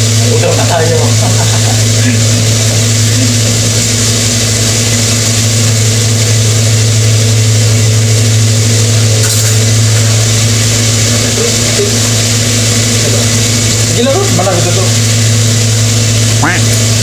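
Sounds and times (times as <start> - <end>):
low machine hum: 0.0 - 17.0
oil deep-frying hiss: 0.0 - 17.0.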